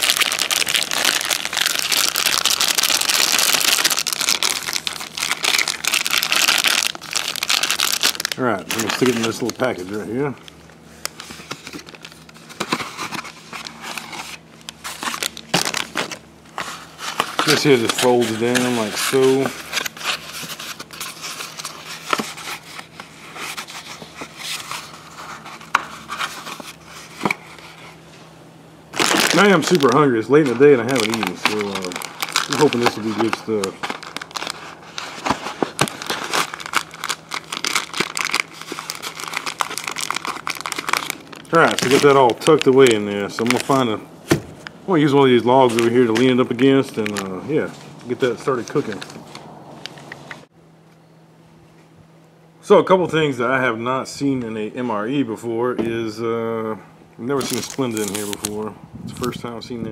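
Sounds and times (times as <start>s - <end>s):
plastic bag crinkling rustle: 0.0s - 27.8s, 28.9s - 44.0s, 45.0s - 50.0s, 57.4s - 58.7s.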